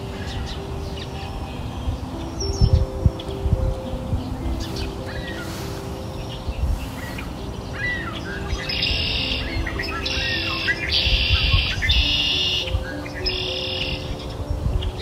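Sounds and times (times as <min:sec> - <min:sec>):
birds chirping: 0:00.0 - 0:15.0
high bird trill: 0:00.0 - 0:15.0
soft music with held notes: 0:00.0 - 0:15.0.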